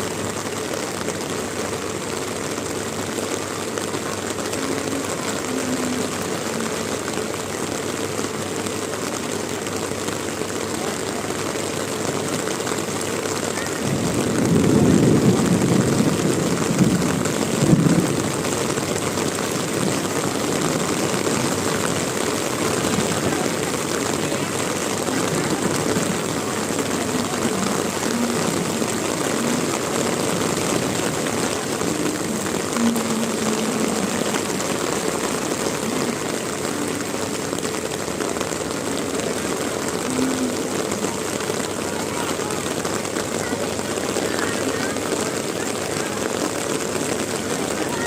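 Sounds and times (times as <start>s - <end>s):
heavy rain hissing: 0.0s - 48.0s.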